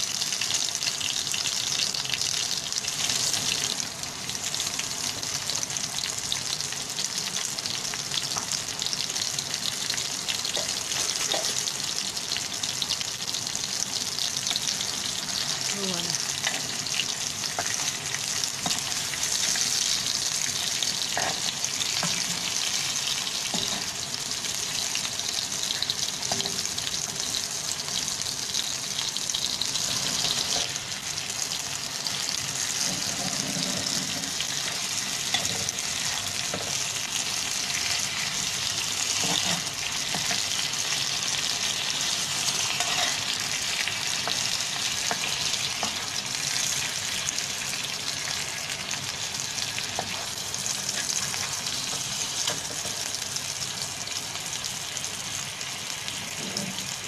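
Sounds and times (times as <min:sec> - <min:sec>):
patties sizzling in oil: 0:00.0 - 0:57.0.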